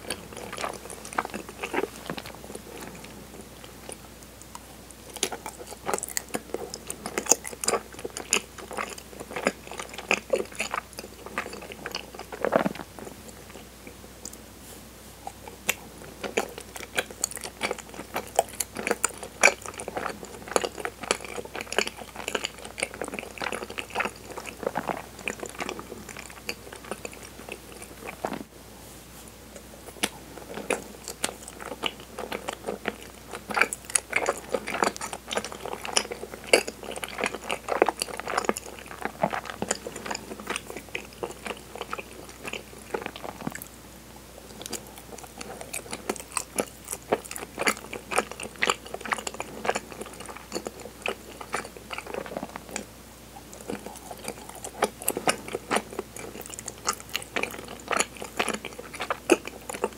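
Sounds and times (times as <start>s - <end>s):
wet chewing mouth clicks: 0.0s - 14.4s, 15.2s - 28.5s, 29.5s - 43.8s, 44.4s - 59.9s.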